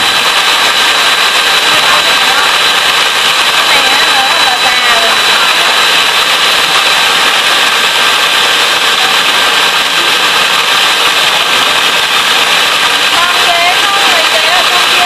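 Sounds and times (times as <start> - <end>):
electric mixer whining: 0.0 - 15.0.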